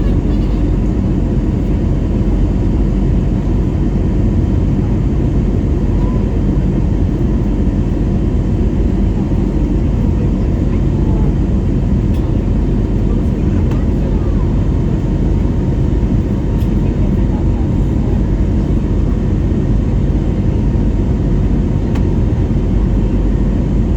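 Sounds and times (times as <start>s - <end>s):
jet engines low rumble: 0.0s - 23.9s.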